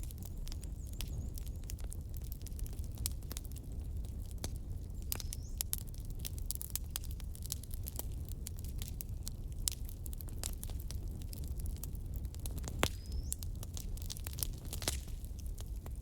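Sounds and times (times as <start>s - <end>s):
faint whistle from burning wood: 0.0s - 16.0s
logs crackling in a fire: 0.0s - 16.0s.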